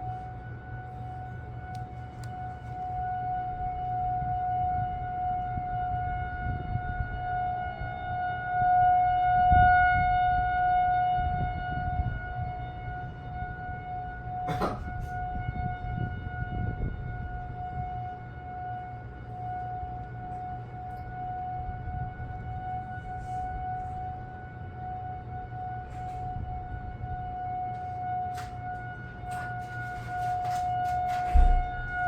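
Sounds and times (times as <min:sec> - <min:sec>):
warning siren steady tone: 0:00.0 - 0:32.0.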